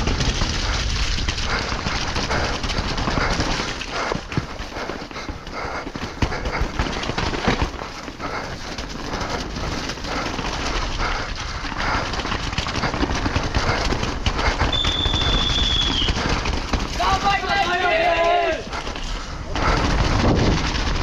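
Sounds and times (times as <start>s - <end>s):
mountain bike rushing noise: 0.0s - 21.0s.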